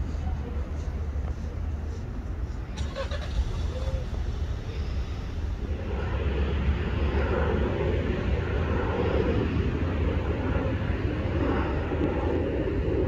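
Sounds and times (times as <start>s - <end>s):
airplane engine rumble: 0.0s - 13.0s.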